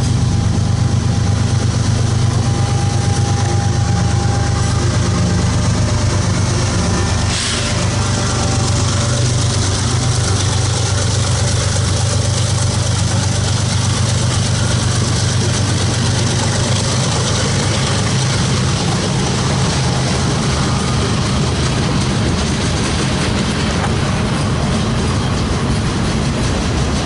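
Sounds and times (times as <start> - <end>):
diesel locomotive engine idling: 0.0 - 27.0.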